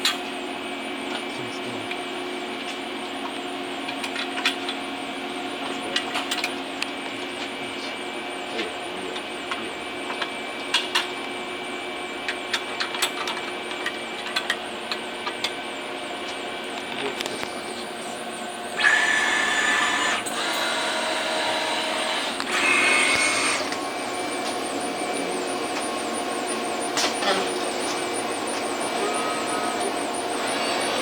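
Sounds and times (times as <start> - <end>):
workshop equipment hum: 0.0 - 31.0.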